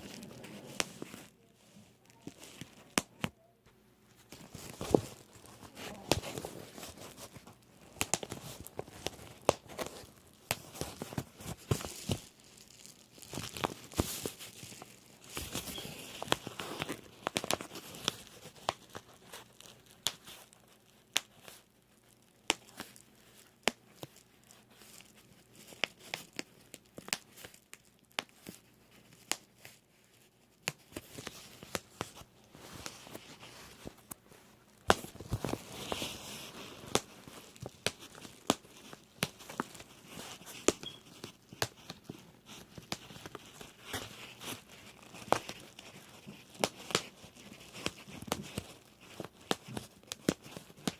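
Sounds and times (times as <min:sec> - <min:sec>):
plastic sheet crinkling: 0:00.0 - 0:03.3, 0:04.1 - 0:50.9
bubble wrap popping: 0:00.0 - 0:03.5, 0:04.1 - 0:50.9.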